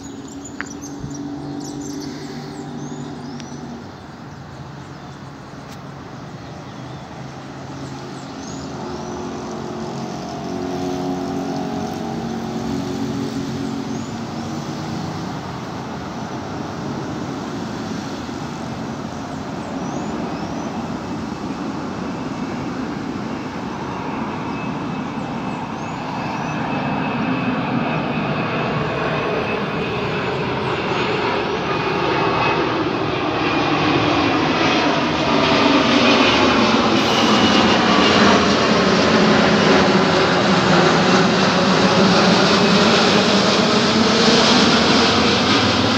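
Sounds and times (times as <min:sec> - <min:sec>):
jet engine rumble and hiss: 0:00.0 - 0:45.9.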